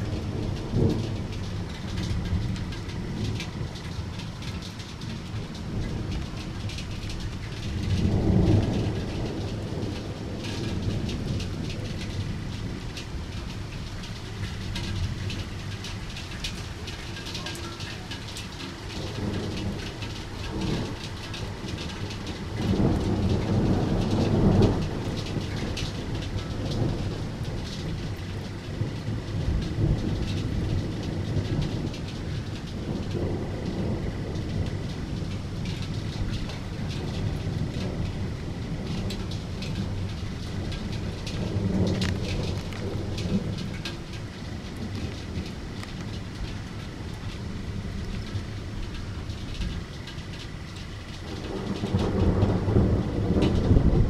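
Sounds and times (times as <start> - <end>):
close raindrops pattering: 0.0 - 54.0
steady rain: 0.0 - 54.0
thunder rumbling: 0.0 - 54.0.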